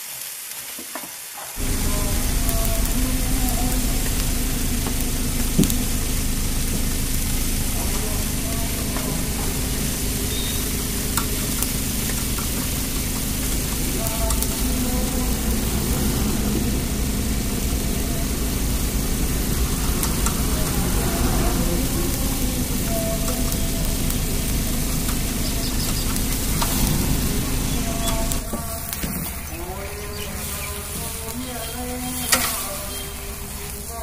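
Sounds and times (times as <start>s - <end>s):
meat sizzling over charcoal: 0.0s - 34.0s
faint voices: 1.6s - 34.0s
steady low hum: 1.6s - 34.0s.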